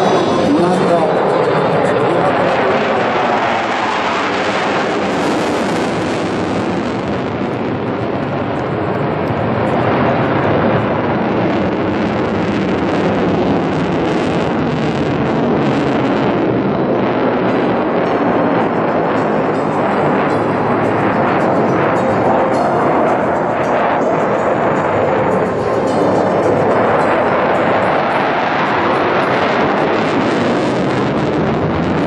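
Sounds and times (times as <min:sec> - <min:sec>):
jet flying overhead: 0:00.0 - 0:32.0.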